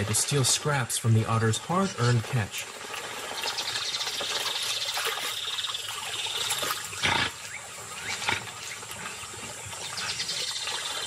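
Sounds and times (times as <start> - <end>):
otters chewing and splashing: 0.0 - 11.0.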